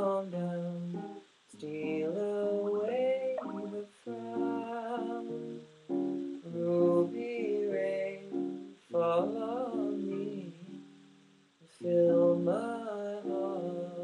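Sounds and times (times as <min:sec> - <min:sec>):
person singing wordless melody: 0:00.0 - 0:14.0
plucked acoustic string instrument: 0:00.0 - 0:14.0.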